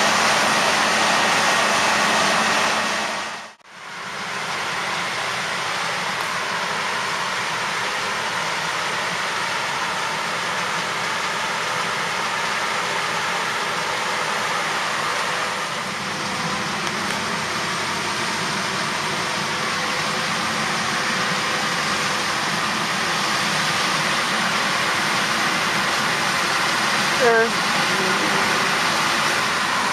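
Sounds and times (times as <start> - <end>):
combine harvester running: 0.0 - 29.9.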